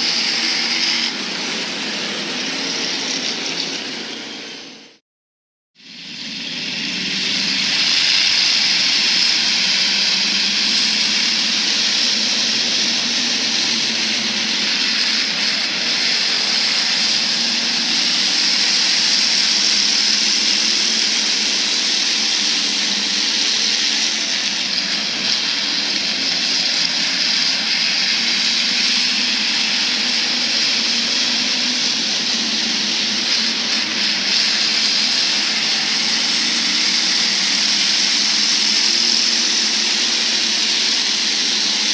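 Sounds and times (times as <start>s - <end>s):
race car engines droning: 0.0s - 5.0s, 5.9s - 41.9s.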